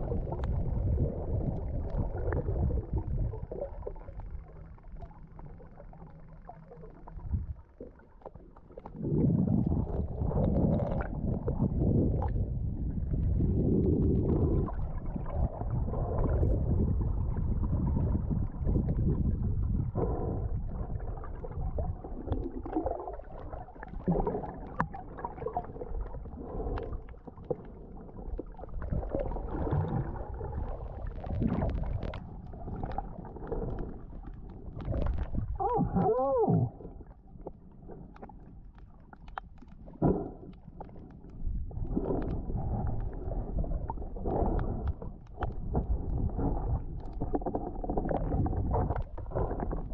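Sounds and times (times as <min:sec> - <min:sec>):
water gurgle: 0:00.0 - 0:49.9
water sloshing underwater: 0:00.0 - 0:49.9.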